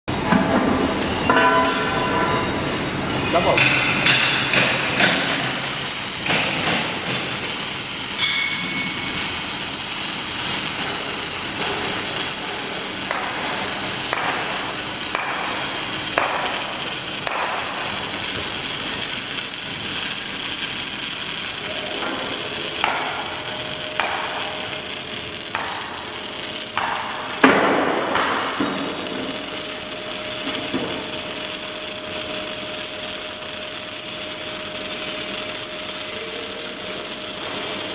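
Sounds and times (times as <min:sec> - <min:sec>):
steady hum: 0:03.8 - 0:37.9.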